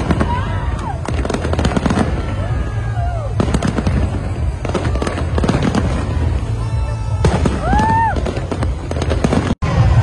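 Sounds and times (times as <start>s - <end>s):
firework whistles: 0.0s - 10.0s
fireworks bangs and crackles: 0.0s - 10.0s
low rumble: 0.0s - 10.0s.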